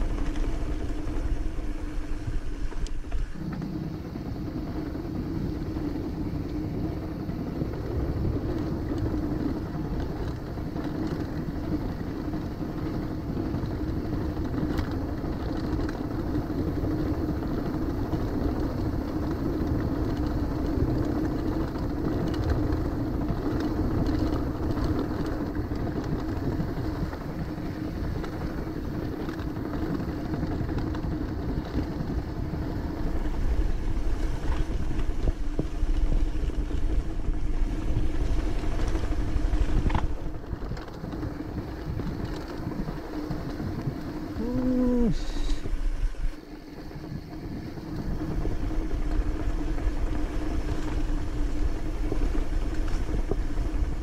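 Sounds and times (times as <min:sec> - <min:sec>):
continuous rumbling: 0:00.0 - 0:54.0
motorcycle engine running: 0:00.0 - 0:54.0.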